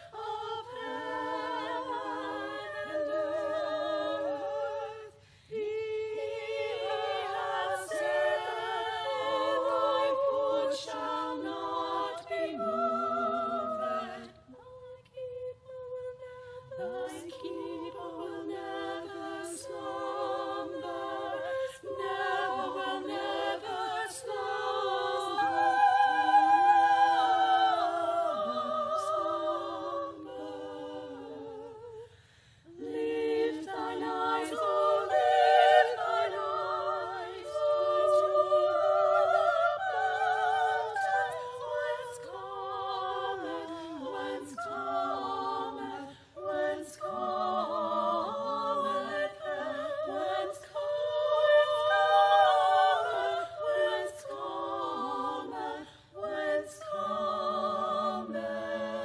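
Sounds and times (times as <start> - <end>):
group singing unaccompanied in harmony: 0.0 - 59.0.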